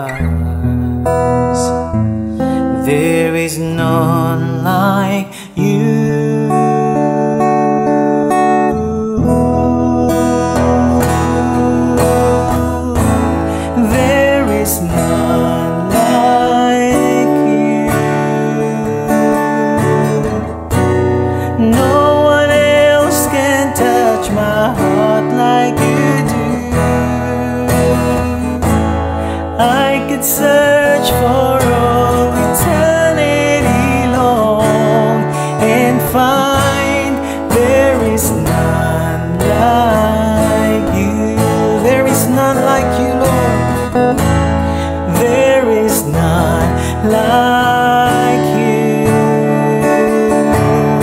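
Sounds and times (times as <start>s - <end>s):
acoustic guitar strumming: 0.0s - 51.0s
man singing: 0.0s - 51.0s.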